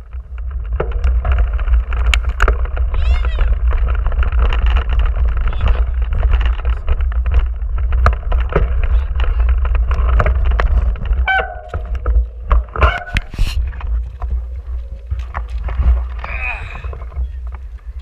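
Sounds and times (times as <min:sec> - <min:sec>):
mountain bike rattling over gravel: 0:00.0 - 0:18.0
wind buffeting microphone: 0:00.0 - 0:18.0.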